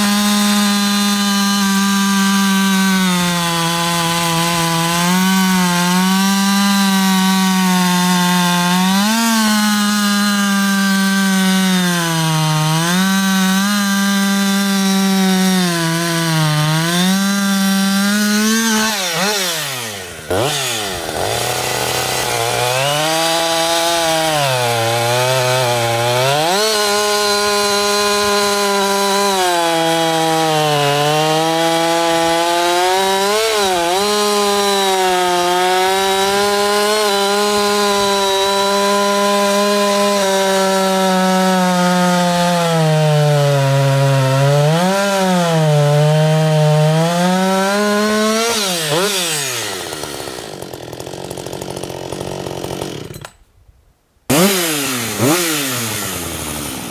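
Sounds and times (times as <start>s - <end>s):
chainsaw cutting wood: 0.0s - 53.6s, 54.3s - 56.9s.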